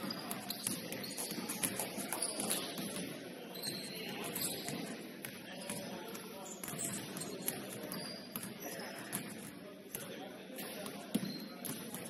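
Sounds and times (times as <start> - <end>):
sneakers squeaking on court: 0.0 - 9.5, 10.6 - 12.0.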